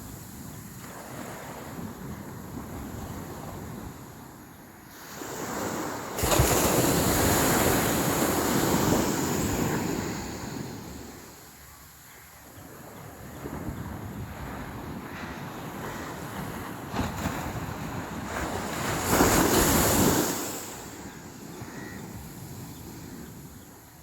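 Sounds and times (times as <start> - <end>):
sea waves breaking on beach: 0.0 - 11.5, 13.1 - 24.0.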